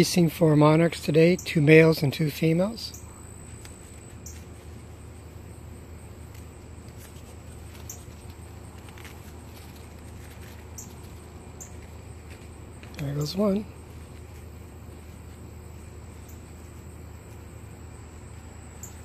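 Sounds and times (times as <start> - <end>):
low steady hum: 0.0 - 19.0
soft rustles of mesh netting: 0.8 - 19.0
high-pitched insect call: 1.2 - 19.0.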